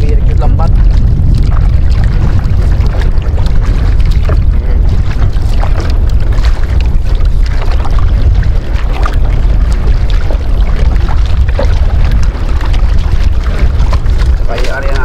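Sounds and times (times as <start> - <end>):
heavy low rumble: 0.0 - 15.0
paddle splashing in water: 0.0 - 15.0.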